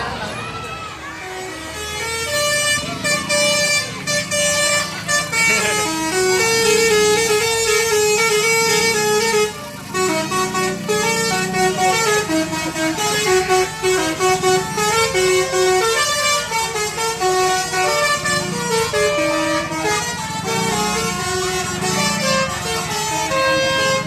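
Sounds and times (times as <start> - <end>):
bus engine running: 0.0 - 24.0
musical air horn melody: 1.0 - 24.0.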